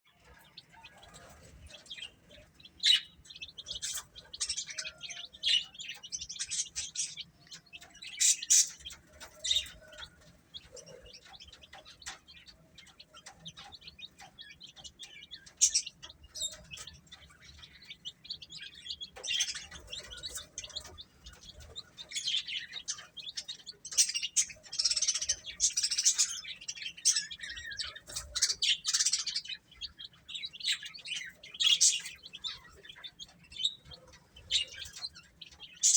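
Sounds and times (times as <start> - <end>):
baby chicks peeping: 0.1 - 35.9.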